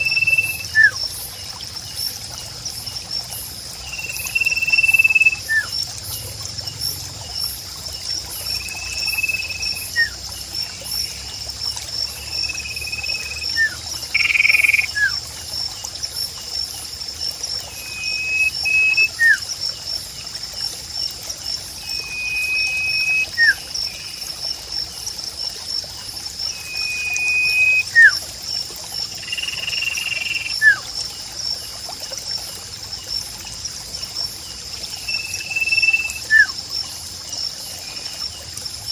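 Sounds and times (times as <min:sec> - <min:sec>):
water trickle: 0:00.0 - 0:38.9.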